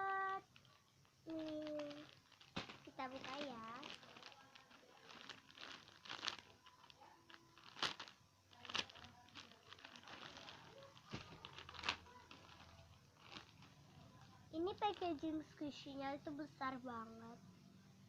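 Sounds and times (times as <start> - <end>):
plastic packaging crinkling: 0.3 - 15.6.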